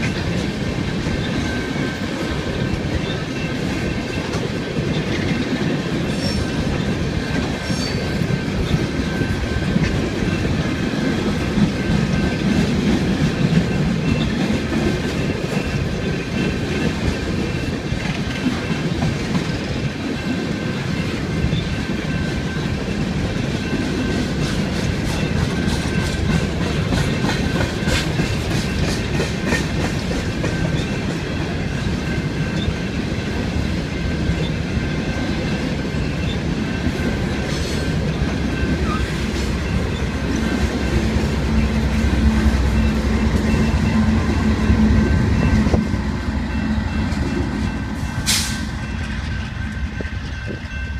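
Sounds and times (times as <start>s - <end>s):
train cars rumbling: 0.0s - 50.9s
wheels clicking over rail joints: 0.0s - 50.9s.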